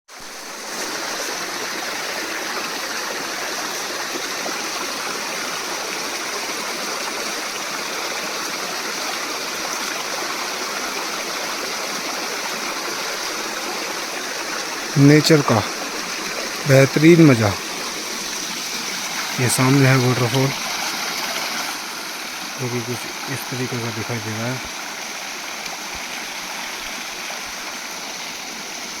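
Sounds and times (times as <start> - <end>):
waterfall rushing: 0.2 - 29.0.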